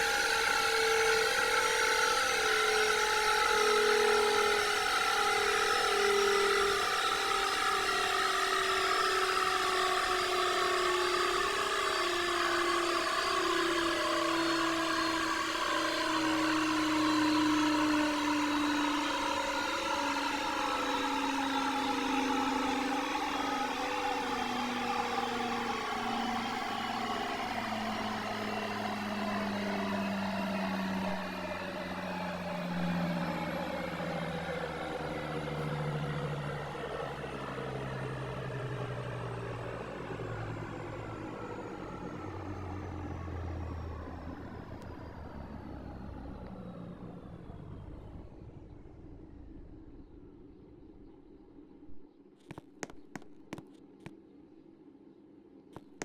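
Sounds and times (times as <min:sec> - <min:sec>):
washing machine motor whine: 0:00.0 - 0:48.7.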